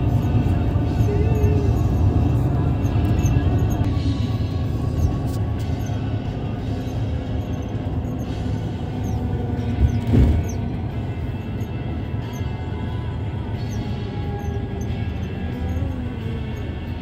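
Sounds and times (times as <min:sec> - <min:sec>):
faint music: 0:00.0 - 0:17.0
vehicle road rumble: 0:00.0 - 0:17.0.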